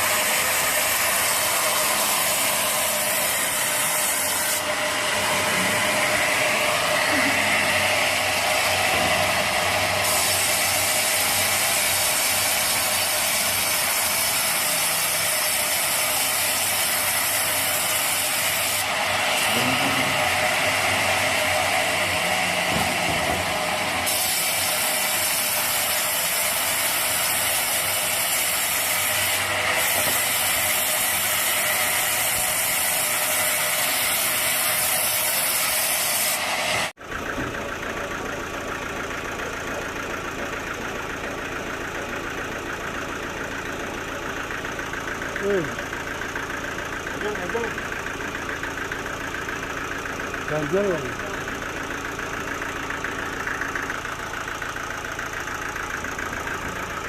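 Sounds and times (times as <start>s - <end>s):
engine idling: 0.0s - 15.4s, 16.2s - 35.2s, 36.9s - 57.0s
saw cutting through log: 0.0s - 37.0s, 39.4s - 57.0s.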